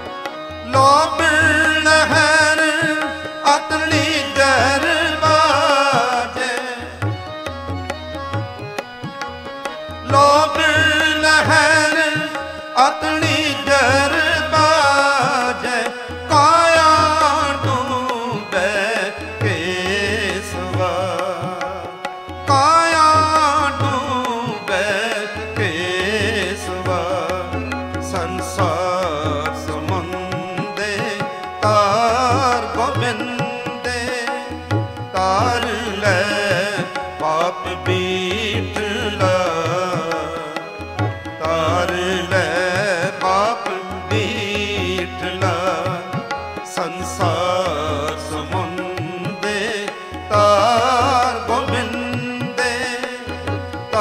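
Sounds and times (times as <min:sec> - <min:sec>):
person singing ornamented phrases: 0:00.0 - 0:07.7, 0:10.0 - 0:54.0
instrumental accompaniment: 0:00.0 - 0:54.0
tabla rhythm: 0:00.0 - 0:54.0.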